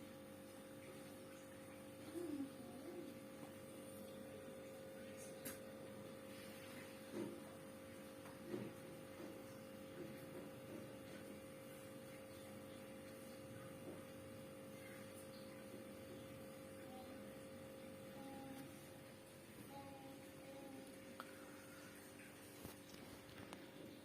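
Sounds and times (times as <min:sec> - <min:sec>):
refrigerator humming: 0:00.0 - 0:24.0.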